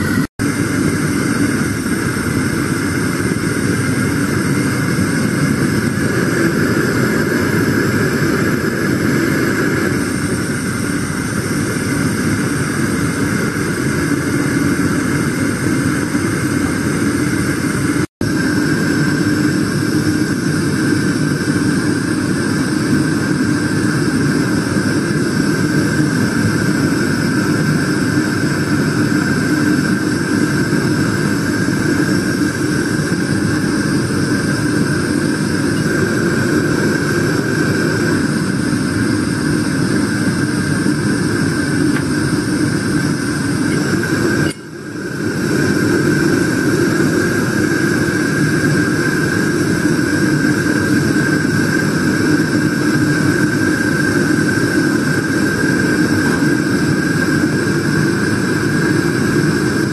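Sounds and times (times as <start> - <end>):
gas torch hissing: 0.0 - 59.9.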